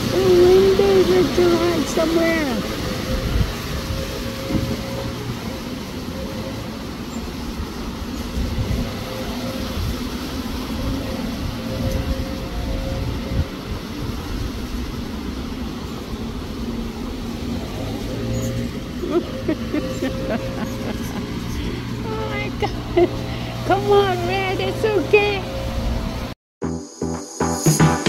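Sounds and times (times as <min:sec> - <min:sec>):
wind buffeting microphone: 0:00.0 - 0:26.3.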